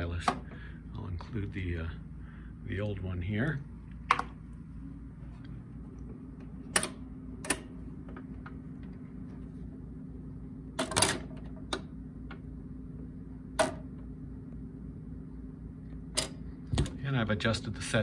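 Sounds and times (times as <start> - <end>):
turntable hum: 0.0 - 18.0.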